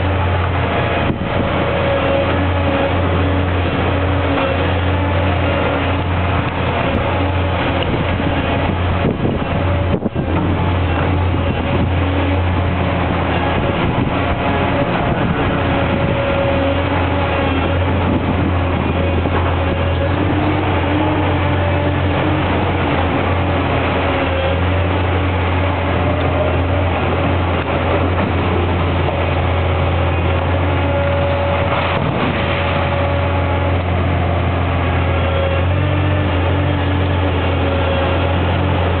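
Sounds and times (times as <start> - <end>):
excavator diesel engine hum: 0.0 - 39.0
hydraulic whine: 0.0 - 39.0.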